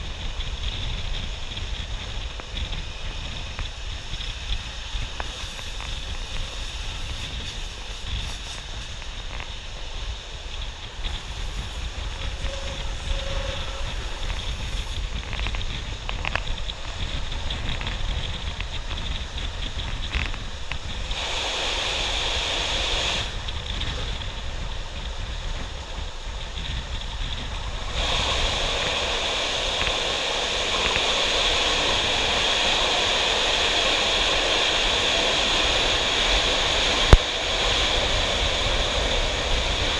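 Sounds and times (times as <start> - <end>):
air rushing over microphone: 0.0 - 39.9
train rumbling on track: 0.0 - 39.9.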